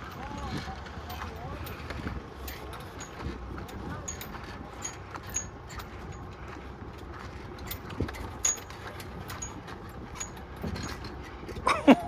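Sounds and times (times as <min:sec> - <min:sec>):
light rattles and squeaks: 0:00.0 - 0:12.0
vehicle engine and road rumble: 0:00.0 - 0:12.0.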